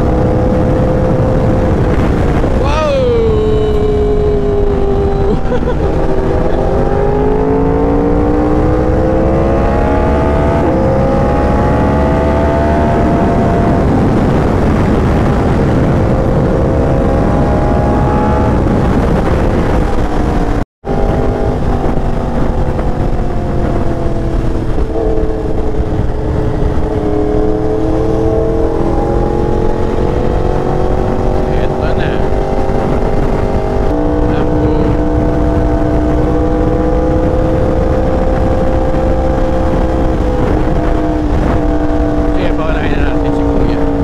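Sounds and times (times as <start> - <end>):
motorcycle engine running at speed: 0.0 - 44.0
wind rumble: 0.0 - 44.0.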